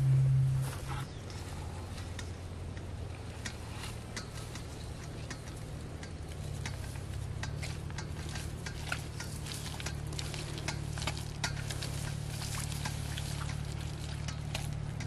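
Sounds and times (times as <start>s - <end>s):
barefoot footsteps in grass and mud: 0.0s - 15.0s
low hum: 0.0s - 15.0s.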